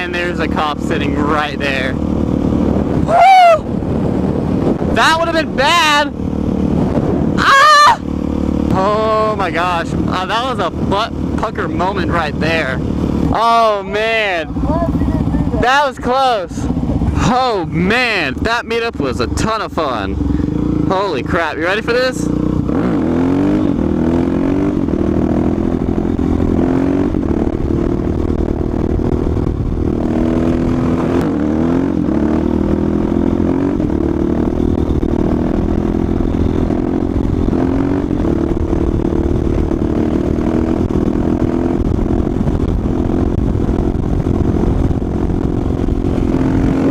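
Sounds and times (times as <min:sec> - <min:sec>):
motorcycle engine revving: 0:00.0 - 0:46.9
wind rushing over microphone: 0:00.0 - 0:46.9.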